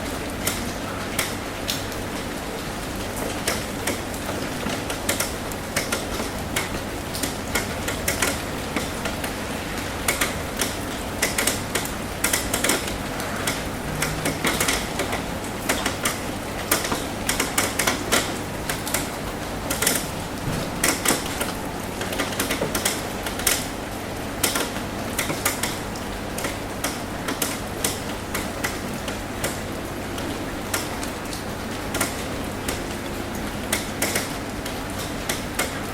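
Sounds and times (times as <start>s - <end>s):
rain on a metal roof: 0.0s - 35.9s.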